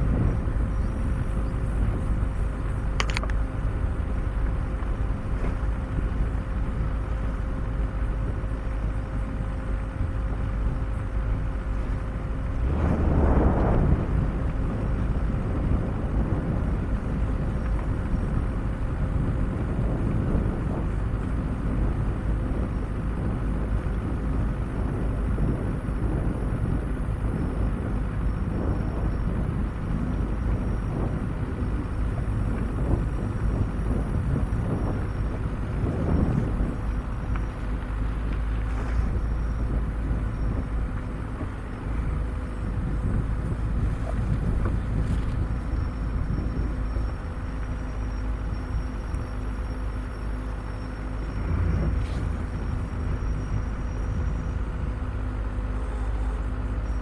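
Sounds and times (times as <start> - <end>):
off-road vehicle engine rumble: 0.0 - 57.0.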